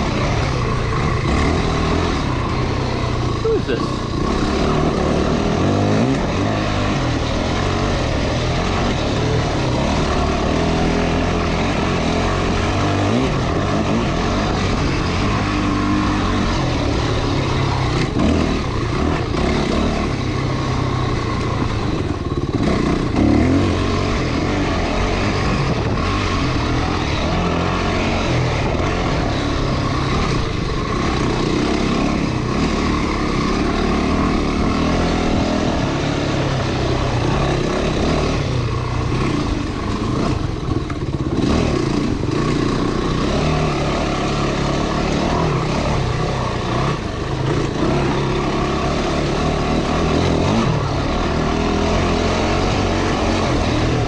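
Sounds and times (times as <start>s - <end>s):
motorcycle engine revving: 0.0s - 54.0s
road and wind noise: 0.0s - 54.0s.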